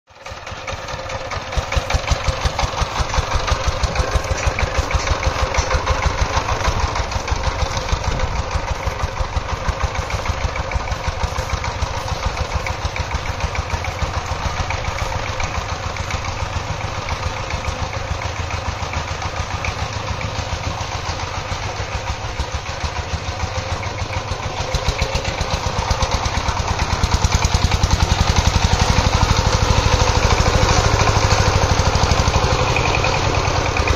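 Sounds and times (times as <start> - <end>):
power tiller diesel engine: 0.1 - 33.9.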